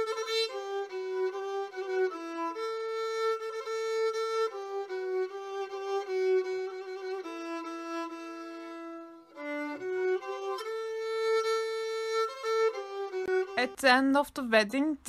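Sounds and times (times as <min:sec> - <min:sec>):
bowed fiddle melody: 0:00.0 - 0:14.1.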